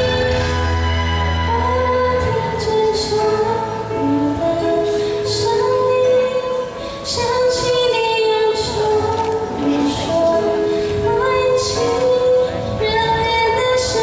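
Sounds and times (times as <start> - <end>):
woman singing pop ballad: 0.0 - 14.0.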